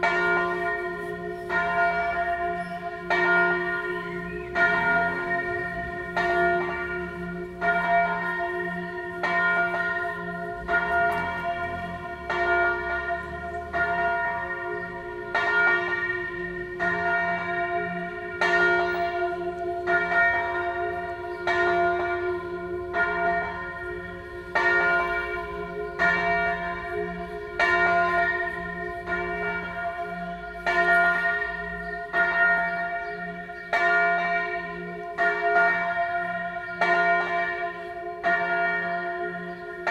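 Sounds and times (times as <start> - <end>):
large church bell ringing: 0.0 - 39.9.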